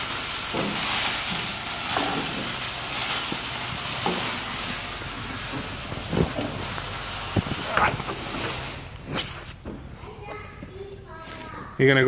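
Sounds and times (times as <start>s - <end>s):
rustling hiss: 0.0s - 11.8s.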